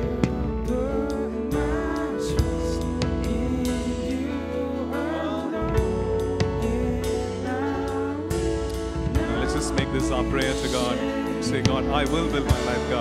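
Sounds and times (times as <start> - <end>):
man singing: 0.0 - 13.0
worship band playing slow music: 0.0 - 13.0.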